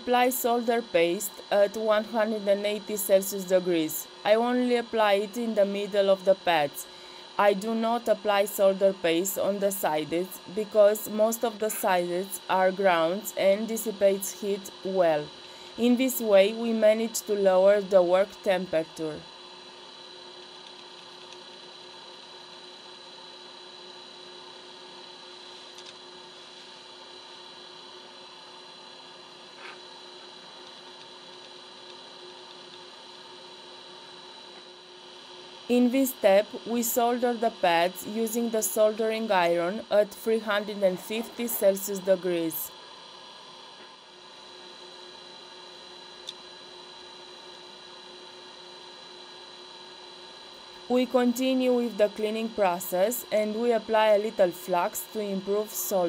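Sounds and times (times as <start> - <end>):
electrical hum: 0.0 - 56.0
faint high whine: 0.0 - 56.0.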